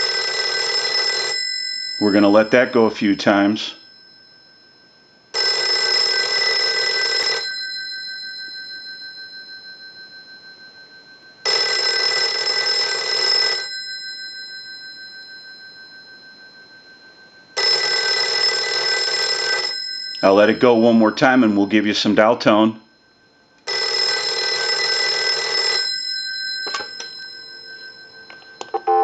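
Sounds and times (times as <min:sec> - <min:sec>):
telephone bells ringing: 0:00.0 - 0:29.0.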